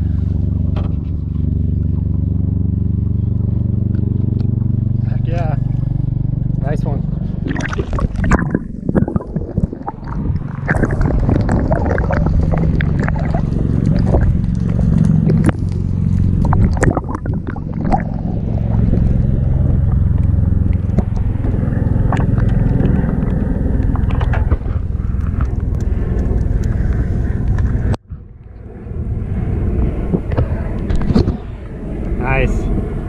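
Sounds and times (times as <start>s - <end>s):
water noise: 0.0s - 33.0s
wind rumble: 0.0s - 33.0s.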